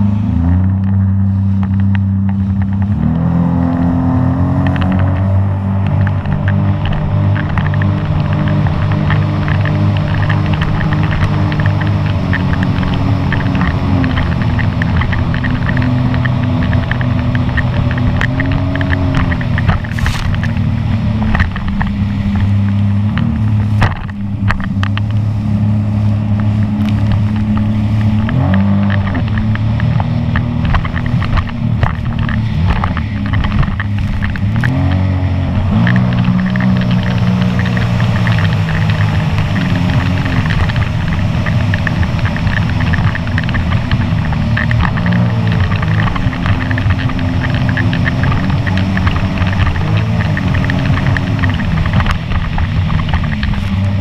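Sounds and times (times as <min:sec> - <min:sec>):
watercraft engine running hard: 0:00.0 - 0:54.0
hull thumping and splashing: 0:00.7 - 0:54.0.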